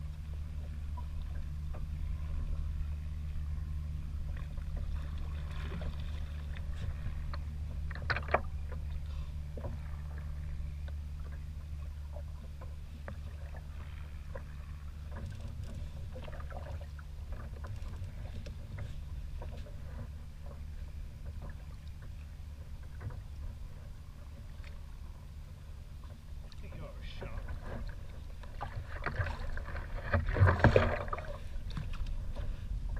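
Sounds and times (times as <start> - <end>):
low rumble: 0.0 - 32.9
water lapping against kayak hull: 0.0 - 32.9.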